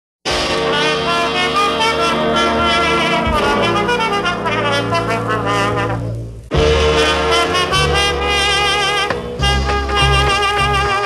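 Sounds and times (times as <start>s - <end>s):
brass jazz music: 0.3s - 11.0s.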